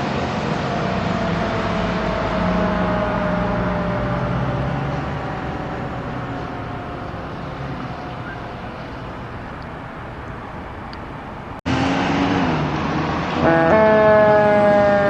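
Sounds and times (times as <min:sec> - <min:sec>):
truck engine low tone: 0:00.0 - 0:11.8, 0:12.6 - 0:15.0
fire truck diesel engine: 0:00.0 - 0:15.0.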